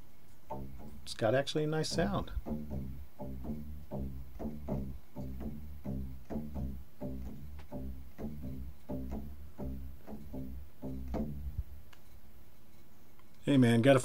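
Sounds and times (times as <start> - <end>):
cord plucked twanging: 0.4 - 12.1.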